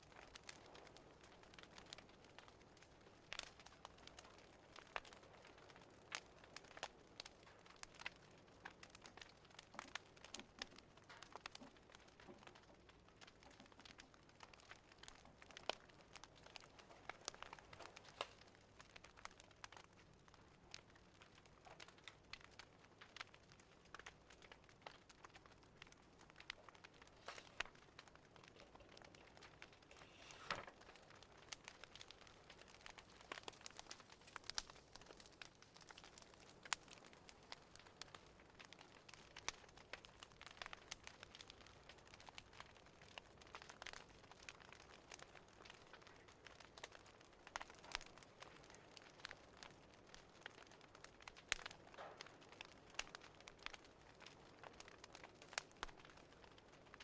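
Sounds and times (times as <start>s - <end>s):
fire crackling: 0.0s - 57.0s.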